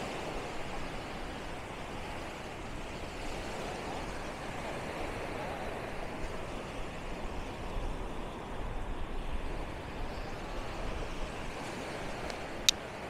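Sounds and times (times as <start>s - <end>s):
surf breaking on shore: 0.0s - 13.0s
wind rumbling on microphone: 0.0s - 13.0s.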